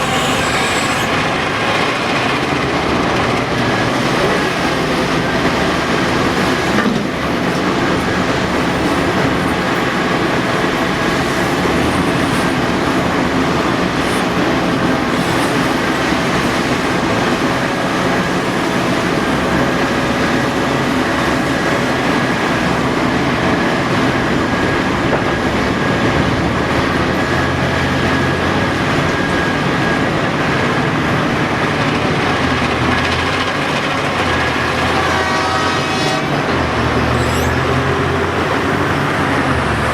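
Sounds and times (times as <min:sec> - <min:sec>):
heavy diesel machinery running: 0:00.0 - 0:39.9
mechanical clatter and whine: 0:00.0 - 0:39.9.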